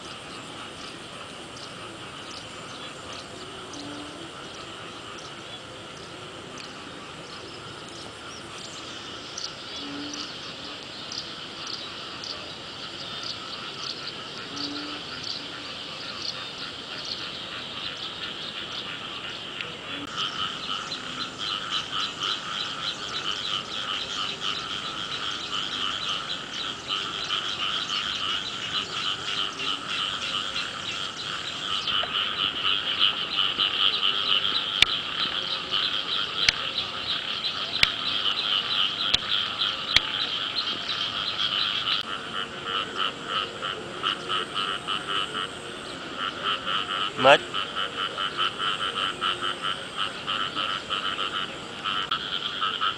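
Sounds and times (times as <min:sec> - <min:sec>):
frogs croaking in chorus: 0:00.0 - 0:52.9.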